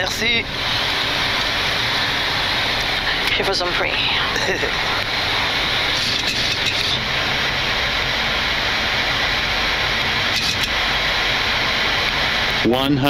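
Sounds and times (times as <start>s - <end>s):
jet engines: 0.0s - 13.0s
air rushing over airframe: 0.4s - 12.7s.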